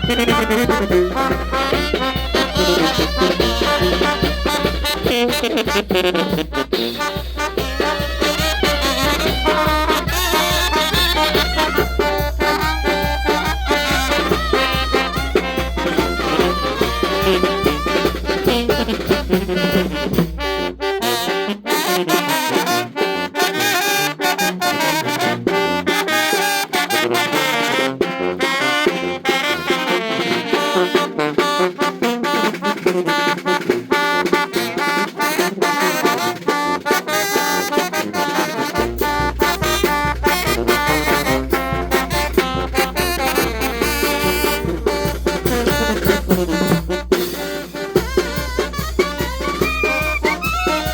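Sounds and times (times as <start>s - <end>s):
brass band playing: 0.0s - 50.9s.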